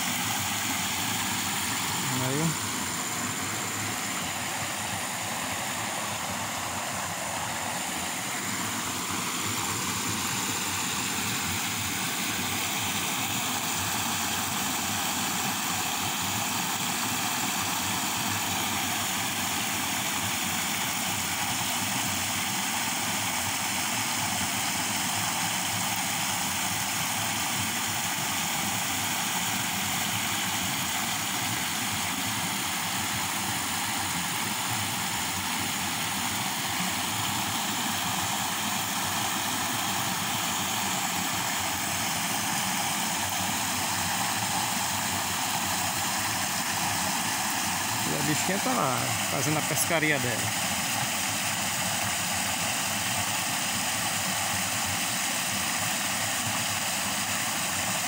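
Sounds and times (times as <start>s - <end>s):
creek rushing over spillway: 0.0s - 58.0s.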